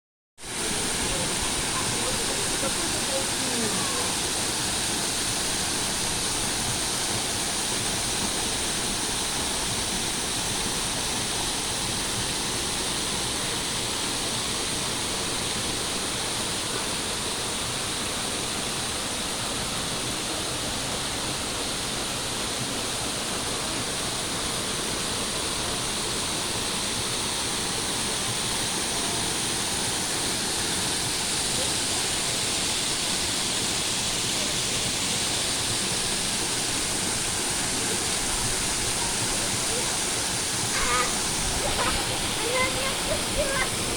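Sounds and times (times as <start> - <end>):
waterfall rushing: 0.4 - 43.9.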